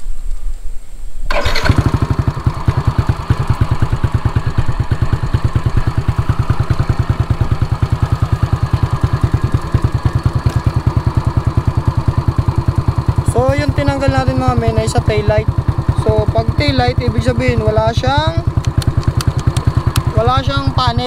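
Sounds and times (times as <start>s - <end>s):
scooter engine idling: 1.3s - 21.0s.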